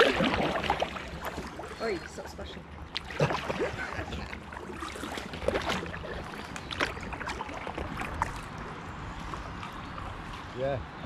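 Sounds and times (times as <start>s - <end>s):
paddle splashing in water: 0.0s - 10.6s.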